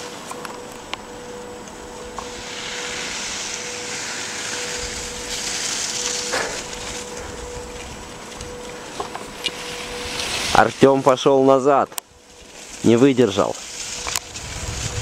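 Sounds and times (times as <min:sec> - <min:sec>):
faint steady hum: 0:00.0 - 0:15.0
skis scraping over snow: 0:02.2 - 0:11.8, 0:12.4 - 0:15.0.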